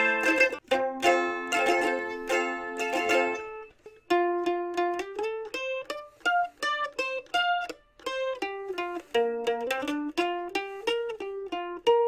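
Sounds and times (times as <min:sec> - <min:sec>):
mandolin picked melody: 0:00.0 - 0:12.0
mandolin strummed chord: 0:00.0 - 0:12.0.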